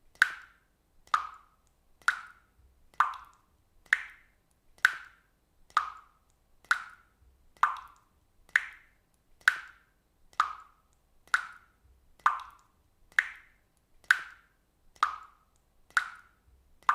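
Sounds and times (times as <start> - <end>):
water drops plopping into water: 0.1 - 16.9.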